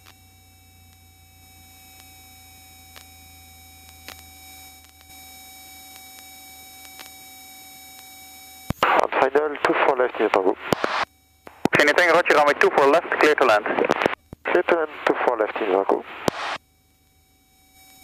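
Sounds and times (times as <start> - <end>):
electrical whine of fixed tones: 0.0 - 18.0
low hum: 0.0 - 18.0.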